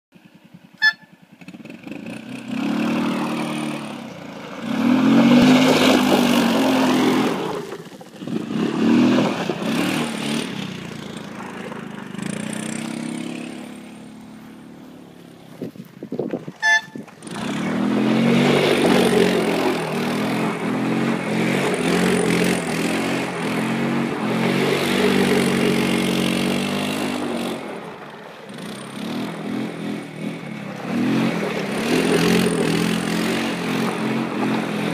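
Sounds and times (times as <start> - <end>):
atv engine revving: 0.5 - 15.8, 16.5 - 34.9.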